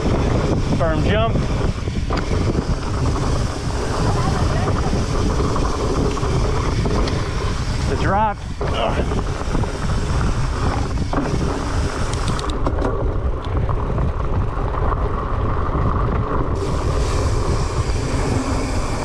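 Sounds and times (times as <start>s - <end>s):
bike rattling and clicking: 0.0s - 19.0s
wind over microphone: 0.0s - 19.0s.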